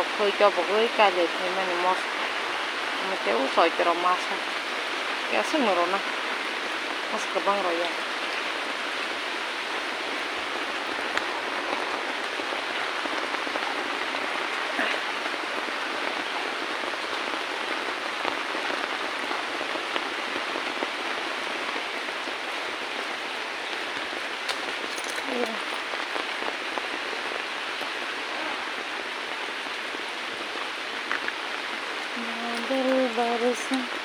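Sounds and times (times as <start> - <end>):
rain falling on leaves: 0.0 - 34.0.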